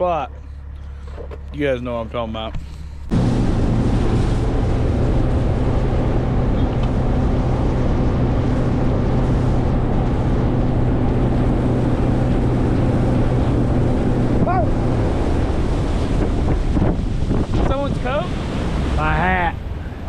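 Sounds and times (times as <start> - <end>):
boat motor humming: 0.0 - 20.0
rushing wind: 2.8 - 20.0
rushing water: 3.1 - 20.0.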